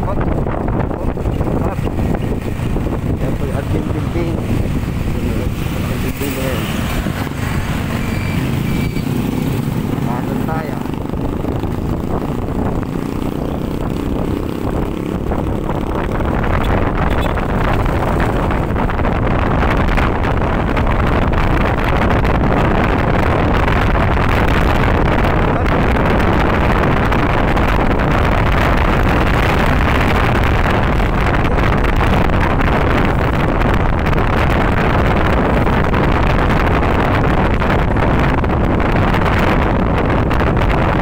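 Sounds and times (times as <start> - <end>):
scooter engine and road noise: 0.0 - 41.0
wind on microphone: 0.0 - 41.0.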